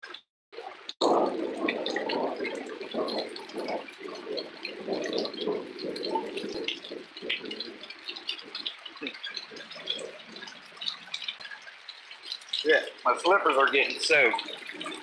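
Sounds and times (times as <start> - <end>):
heavy rain pouring: 0.6 - 15.0.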